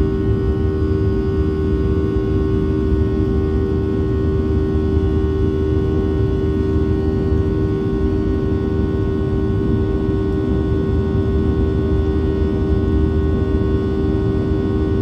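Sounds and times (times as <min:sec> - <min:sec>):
jet engines low rumble: 0:00.0 - 0:15.0
steady mid-pitched hum: 0:00.0 - 0:15.0.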